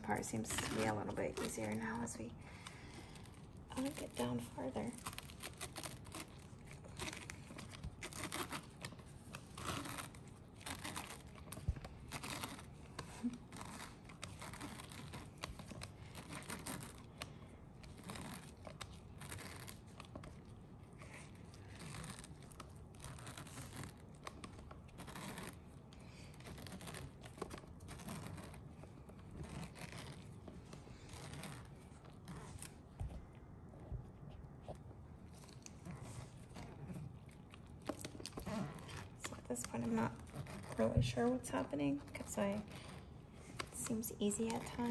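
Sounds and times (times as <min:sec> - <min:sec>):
pineapple slicer scraping and tearing: 0:00.0 - 0:32.9, 0:35.3 - 0:44.9.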